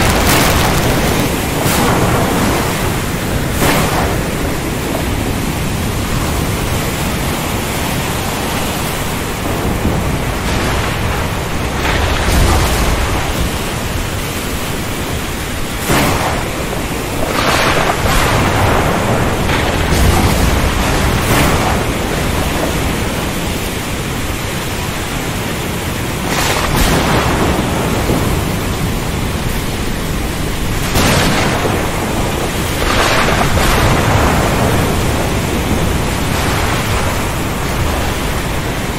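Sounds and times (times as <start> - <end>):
heavy rain: 0.0 - 38.9
ocean surf: 0.0 - 38.9
thunder cracking and rumbling: 0.0 - 38.9.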